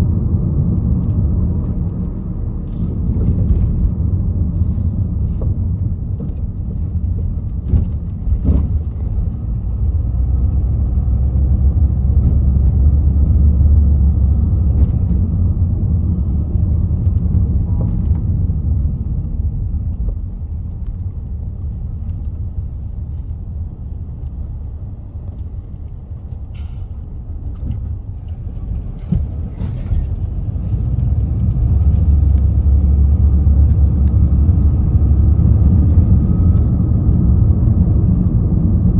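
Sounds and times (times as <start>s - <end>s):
low rumble of road traffic: 0.0s - 38.9s.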